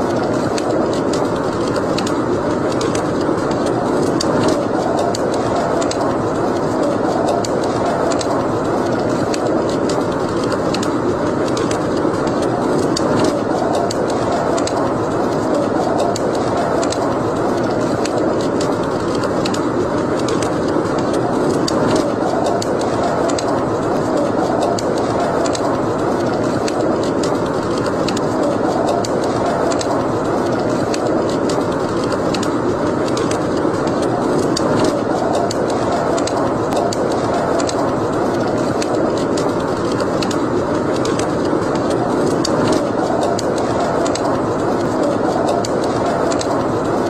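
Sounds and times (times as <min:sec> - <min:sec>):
fire crackles and pops: 0:00.0 - 0:47.0
wood fire burning: 0:00.0 - 0:47.0.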